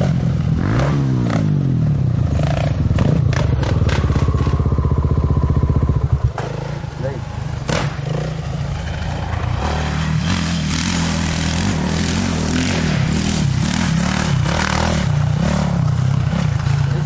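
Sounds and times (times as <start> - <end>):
off-road motorcycle engine revving: 0.0 - 17.0.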